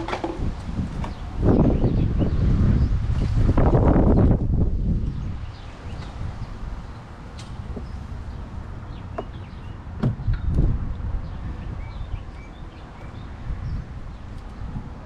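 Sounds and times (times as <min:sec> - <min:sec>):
low wind rumble: 0:00.0 - 0:15.0
small birds chirping: 0:01.0 - 0:14.9.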